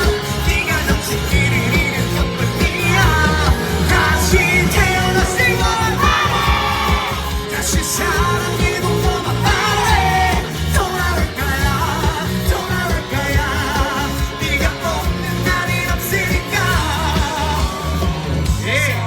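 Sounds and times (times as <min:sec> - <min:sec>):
pop-rock band playing live: 0:00.0 - 0:19.0.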